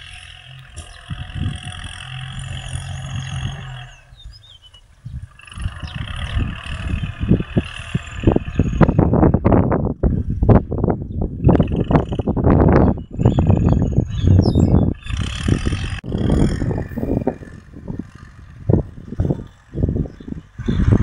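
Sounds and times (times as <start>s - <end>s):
distant tractor engine humming: 0.0s - 21.0s
wind buffeting microphone: 0.0s - 21.0s.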